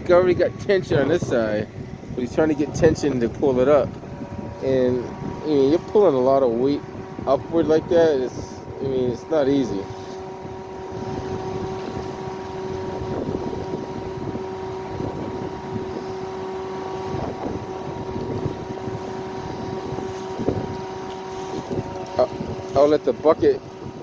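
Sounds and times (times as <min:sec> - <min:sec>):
truck engine running with whine: 0:00.0 - 0:24.0
wind rumble on microphone: 0:00.0 - 0:24.0.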